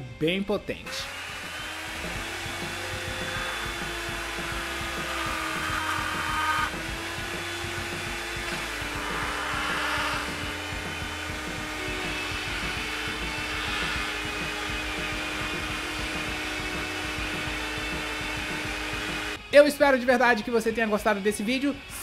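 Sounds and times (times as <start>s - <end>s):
rotary tool motor whine: 0.9s - 19.4s
tool grinding metal plate: 0.9s - 19.4s.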